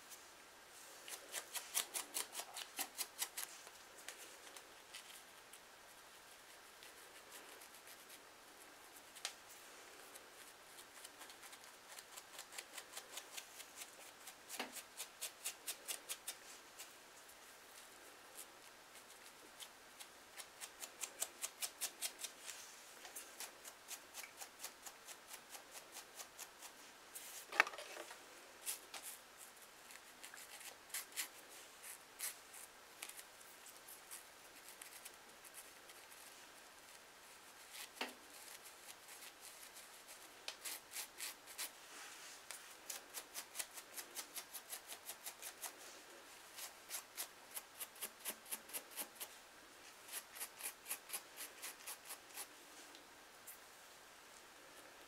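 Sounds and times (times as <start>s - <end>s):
comb scraping dry scalp: 0.8s - 5.3s, 6.2s - 8.2s, 8.9s - 17.0s, 18.3s - 49.4s, 50.0s - 52.9s.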